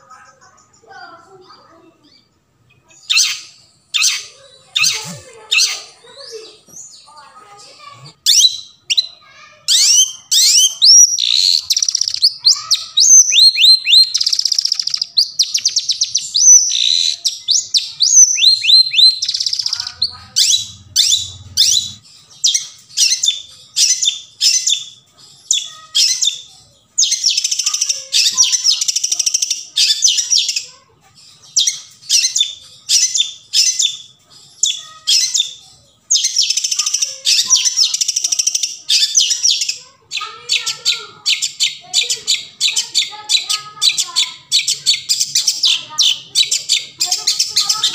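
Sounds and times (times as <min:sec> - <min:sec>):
bird harsh chatter: 0:00.0 - 0:47.9.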